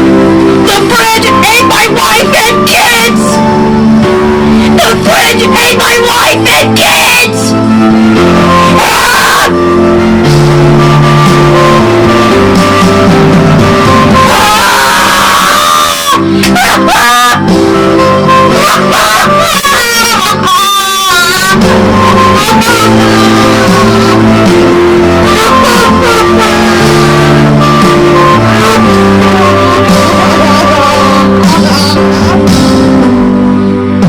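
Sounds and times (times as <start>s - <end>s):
loud guitar rock music: 0.0s - 34.0s.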